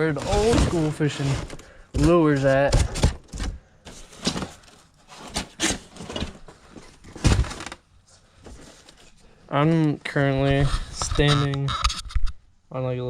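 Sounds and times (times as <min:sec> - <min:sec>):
items rustling and scraping: 0:00.0 - 0:12.4.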